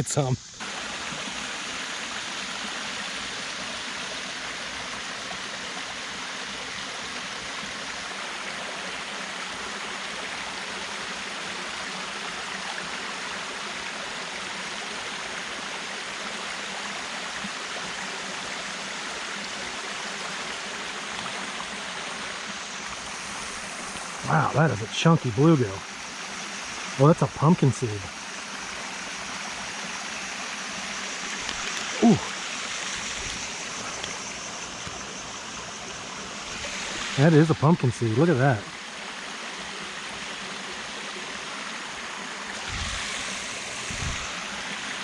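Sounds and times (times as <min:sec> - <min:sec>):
running water rushing: 0:00.0 - 0:45.0.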